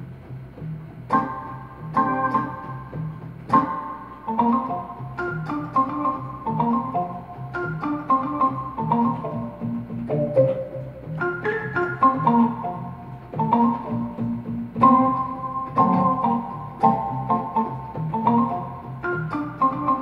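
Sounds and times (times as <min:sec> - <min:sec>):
low bass line: 0:00.0 - 0:20.0
organ-like electronic keyboard: 0:00.0 - 0:20.0.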